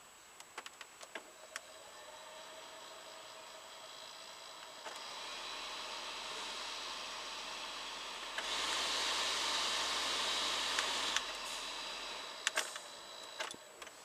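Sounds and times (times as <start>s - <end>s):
blower motor whirring: 1.3s - 13.9s.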